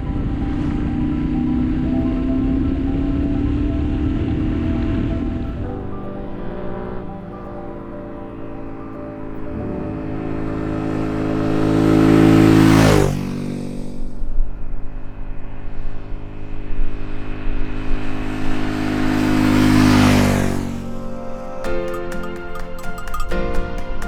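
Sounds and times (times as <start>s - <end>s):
motorcycle passing by: 0.0s - 23.2s.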